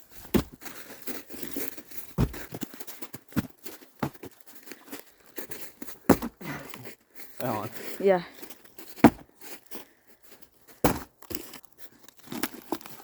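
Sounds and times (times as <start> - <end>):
crunching and crinkling rustles: 0.0 - 13.0.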